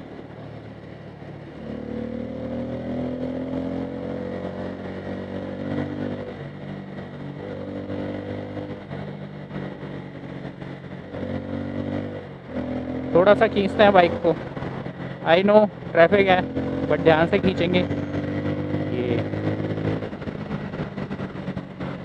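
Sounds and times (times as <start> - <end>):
motorcycle engine under throttle: 0.0 - 22.0
road and wind noise: 0.0 - 22.0.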